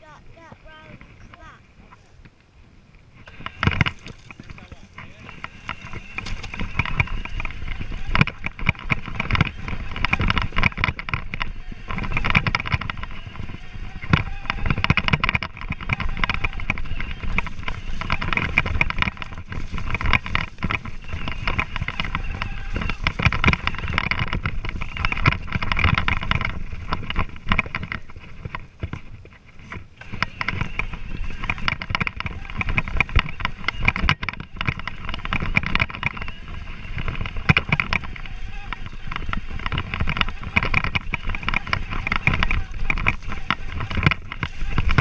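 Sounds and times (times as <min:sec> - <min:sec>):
bike rattling over bumps: 0:00.0 - 0:45.0
wind buffeting microphone: 0:00.0 - 0:45.0
electric motor whine: 0:03.2 - 0:45.0.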